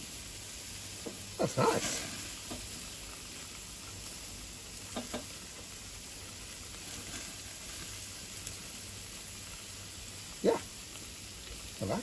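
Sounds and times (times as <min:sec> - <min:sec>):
steaks sizzling on a grate: 0:00.0 - 0:12.0.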